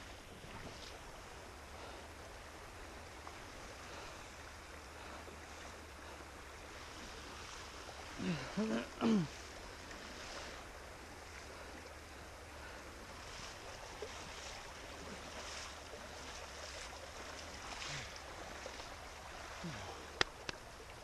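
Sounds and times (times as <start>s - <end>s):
legs wading through water: 0.0s - 21.0s
river water rushing: 0.0s - 21.0s.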